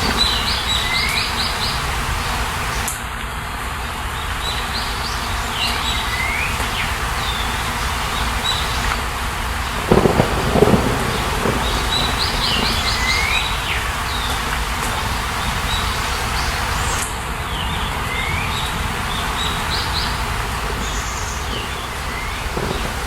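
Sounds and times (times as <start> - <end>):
songbird singing: 0.0 - 2.9, 4.0 - 23.0
steady background hiss: 0.0 - 23.0.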